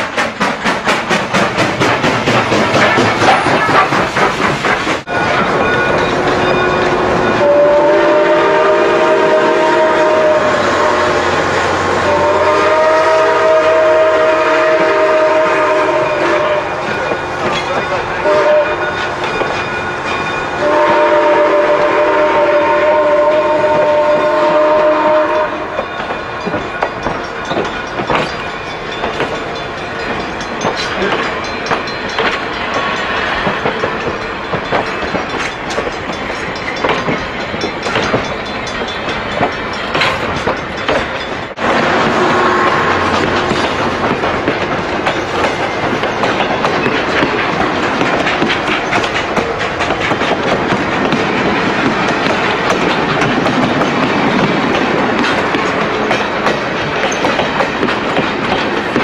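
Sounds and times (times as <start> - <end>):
train rumble: 0.0 - 59.0
train wheels clicking over rail joints: 0.0 - 59.0.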